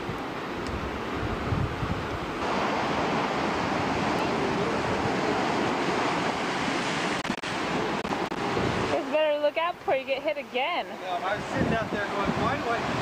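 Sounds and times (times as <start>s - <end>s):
wind on microphone: 0.0s - 9.9s, 11.3s - 13.0s
surf breaking on rocky shore: 0.0s - 10.2s, 10.9s - 13.0s.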